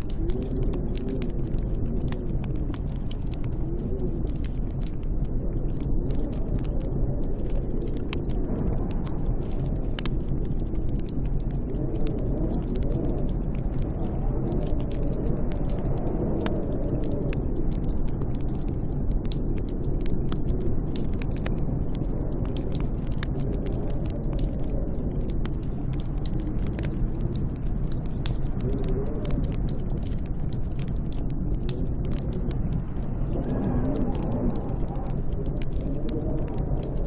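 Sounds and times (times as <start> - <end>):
howling snowstorm wind: 0.0 - 37.0
small clicks and crackles: 0.0 - 37.0.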